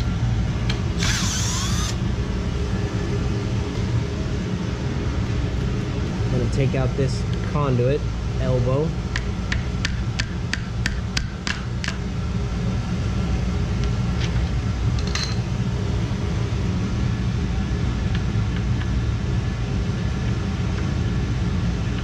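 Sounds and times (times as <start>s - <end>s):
low machinery hum: 0.0s - 22.0s.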